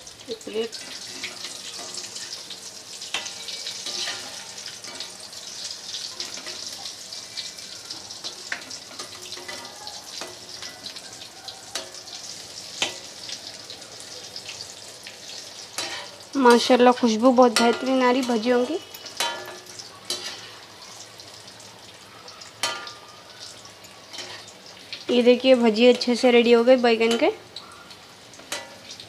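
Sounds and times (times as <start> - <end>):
fritters sizzling in hot oil: 0.0 - 29.0.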